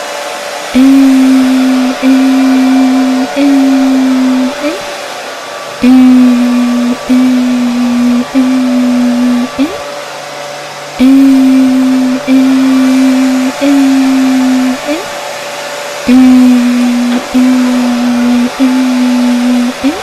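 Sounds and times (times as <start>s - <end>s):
hair dryer running: 0.0s - 20.0s
woman singing long notes: 0.8s - 5.0s, 5.8s - 9.8s, 11.0s - 15.2s, 16.1s - 20.0s.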